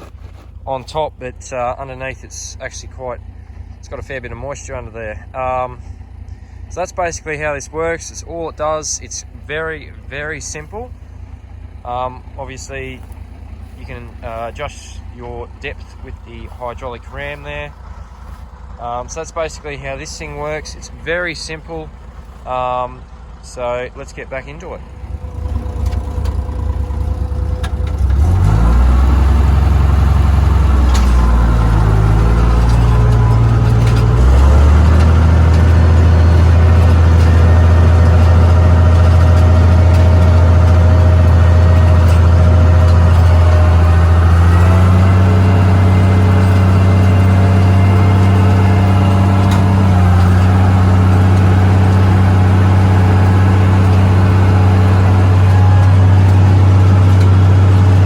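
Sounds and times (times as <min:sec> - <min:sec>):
tractor engine revving: 0:00.0 - 0:58.0.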